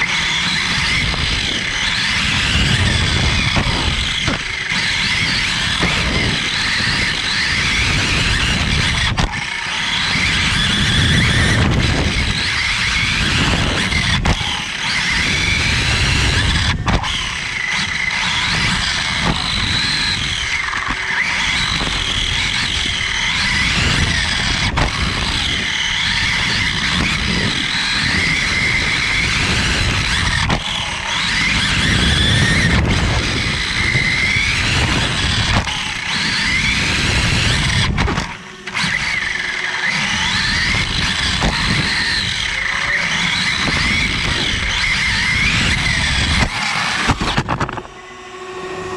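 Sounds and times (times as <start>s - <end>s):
tyres rumbling on dirt: 0.0s - 47.9s
electric motor whine: 0.0s - 48.9s.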